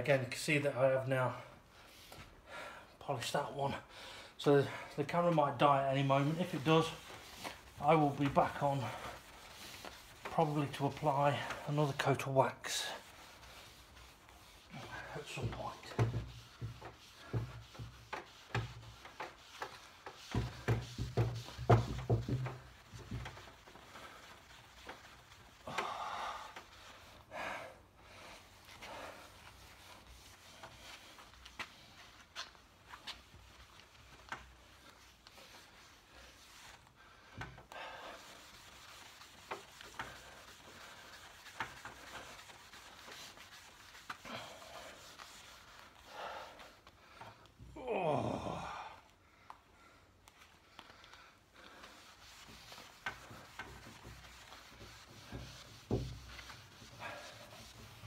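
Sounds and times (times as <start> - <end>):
rubbing on wood: 4.8 - 47.9, 50.2 - 58.0.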